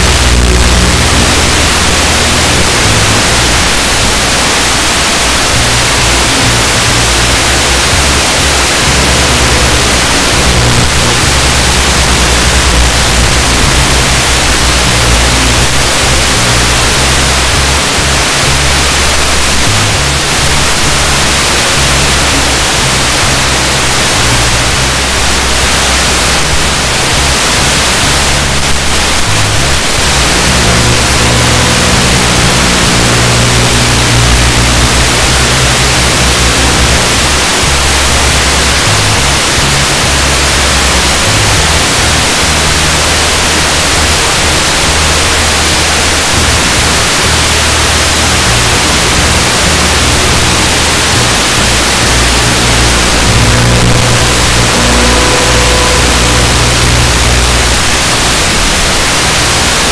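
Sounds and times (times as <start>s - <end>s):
low bass tones: 0.0s - 59.9s
static hiss: 0.0s - 59.9s.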